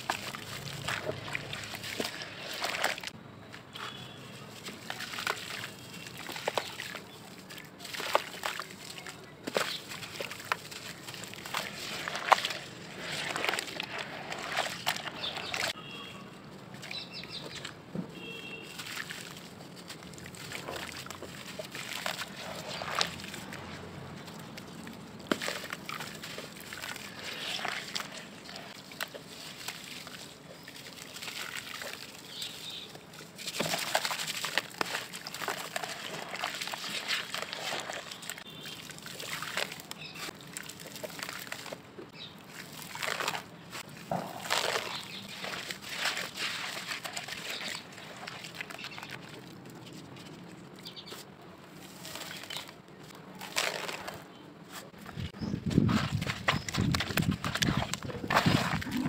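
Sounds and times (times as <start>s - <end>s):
clay crackling and fizzing in water: 0.0s - 3.2s, 3.8s - 15.8s, 18.6s - 50.8s, 51.6s - 54.3s.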